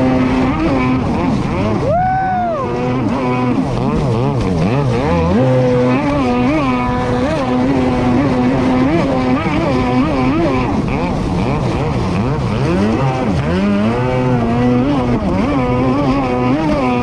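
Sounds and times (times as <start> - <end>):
jet ski engine revving: 0.0 - 17.0.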